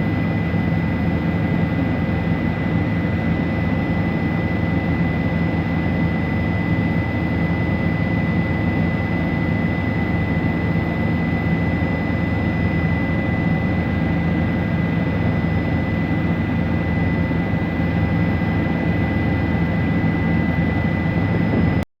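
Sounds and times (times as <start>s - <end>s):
constant high whine: 0.0s - 21.8s
helicopter engine and rotor drone: 0.0s - 21.8s.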